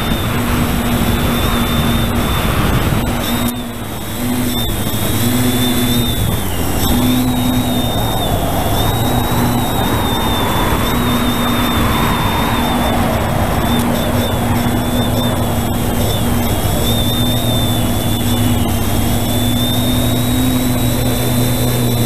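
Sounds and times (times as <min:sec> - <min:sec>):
drone propellers whining: 0:00.0 - 0:22.0
low hum: 0:00.0 - 0:22.0
wind rushing: 0:00.0 - 0:22.0.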